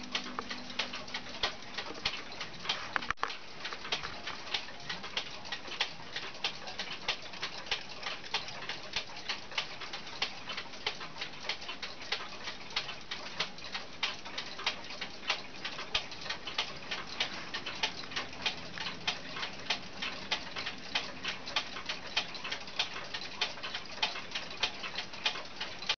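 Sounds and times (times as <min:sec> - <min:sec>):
wall clock ticking: 0:00.0 - 0:26.0.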